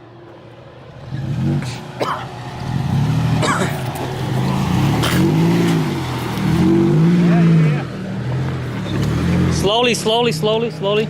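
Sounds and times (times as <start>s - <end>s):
off-road vehicle engine revving: 0.9s - 11.0s.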